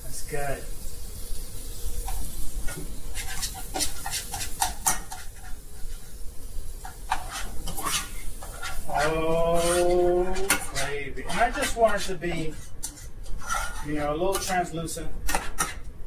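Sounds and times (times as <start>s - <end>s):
vegetables sizzling: 0.0s - 16.0s
spatula scraping a saucepan: 1.3s - 15.9s.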